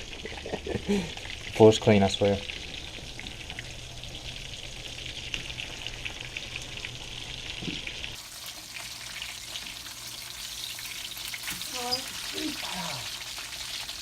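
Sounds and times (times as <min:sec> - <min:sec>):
fish sizzling in a pan: 0:00.0 - 0:14.0.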